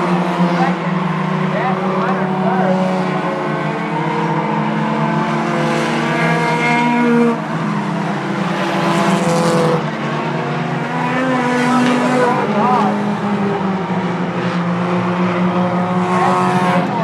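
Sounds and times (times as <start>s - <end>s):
race car engines racing past: 0.0s - 17.0s.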